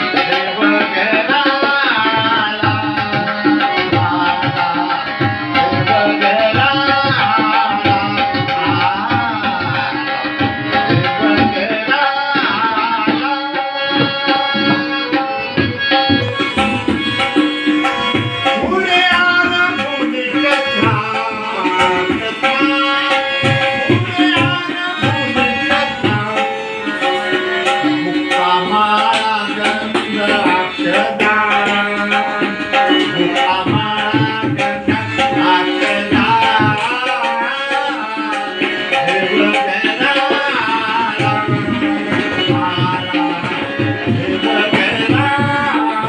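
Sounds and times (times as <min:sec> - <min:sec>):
harmonium chords: 0:00.0 - 0:46.0
man singing: 0:00.0 - 0:46.0
tabla drumming: 0:00.0 - 0:46.0.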